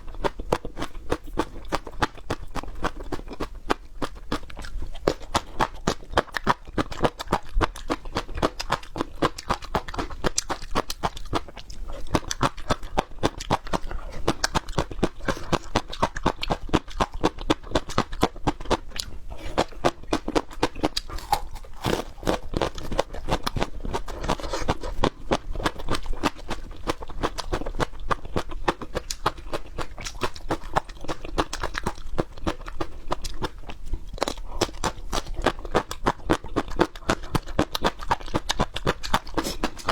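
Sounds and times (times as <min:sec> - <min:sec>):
person chewing crunchy peppers: 0:00.0 - 0:39.9.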